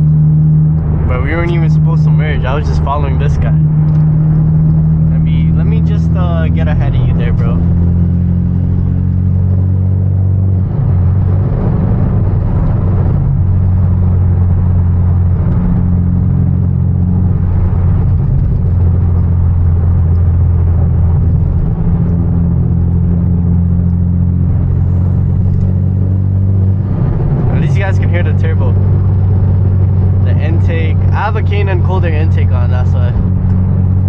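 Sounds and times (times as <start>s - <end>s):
car engine running: 0.0s - 34.0s
road noise: 0.0s - 34.0s.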